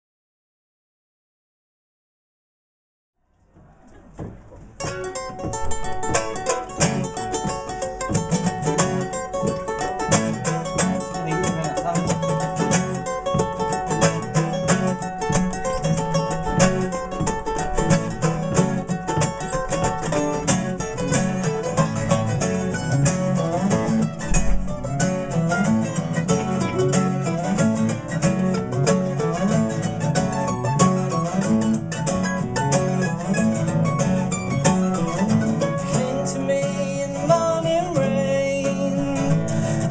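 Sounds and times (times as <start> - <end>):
mandolin: 3.4 - 39.9
acoustic guitars picking and strumming: 3.5 - 39.9.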